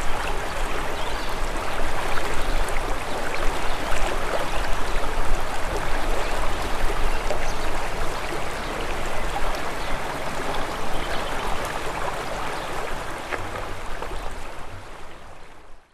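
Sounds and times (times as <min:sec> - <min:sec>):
stream of running water: 0:00.0 - 0:15.9.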